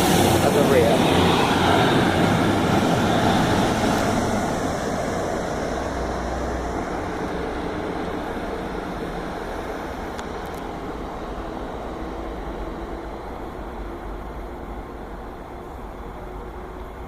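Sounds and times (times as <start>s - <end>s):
diesel train engine: 0.0s - 17.0s
train wheel noise: 0.0s - 17.0s.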